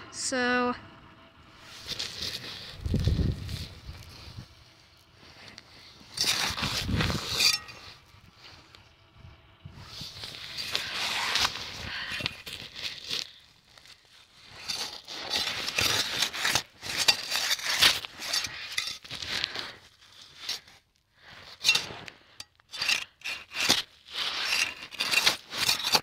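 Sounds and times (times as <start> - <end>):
snow scraping and crunching: 1.5 - 8.8, 9.7 - 26.0.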